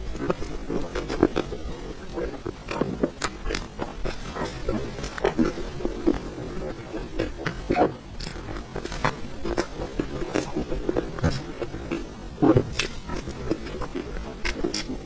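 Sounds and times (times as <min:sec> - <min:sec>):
wet chewing and lip smacking: 0:00.0 - 0:15.0.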